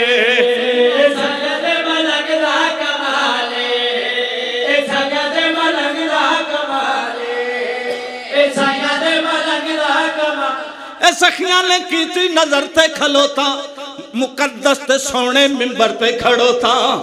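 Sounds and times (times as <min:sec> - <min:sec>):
men chanting into microphones: 0:00.0 - 0:17.0.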